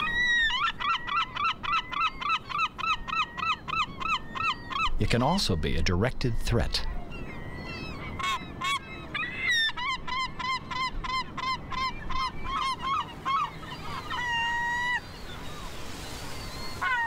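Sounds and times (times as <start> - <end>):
gull laughing calls: 0.0 - 5.0, 6.7 - 15.6, 16.8 - 17.0.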